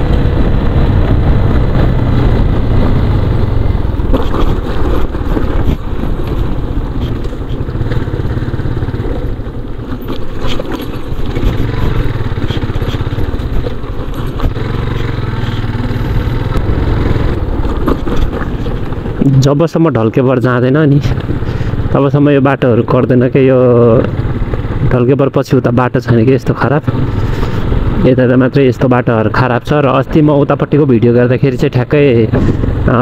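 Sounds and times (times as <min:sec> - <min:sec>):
motorcycle engine hum: 0:00.0 - 0:33.0
road noise: 0:00.0 - 0:33.0.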